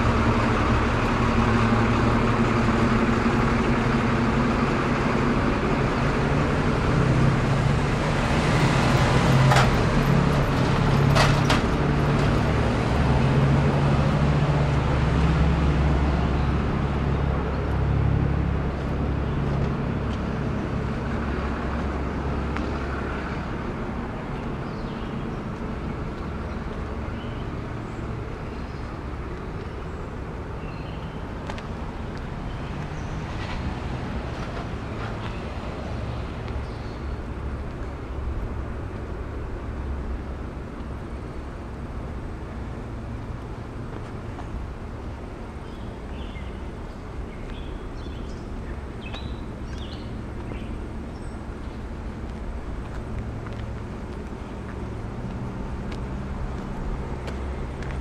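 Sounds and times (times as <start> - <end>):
heavy engine rumbling: 0.0 - 58.0.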